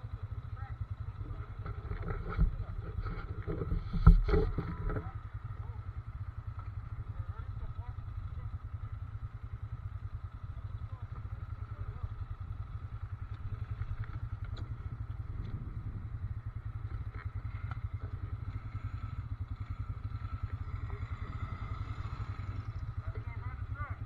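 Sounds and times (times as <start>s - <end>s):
quad bike engine idling: 0.0s - 24.0s.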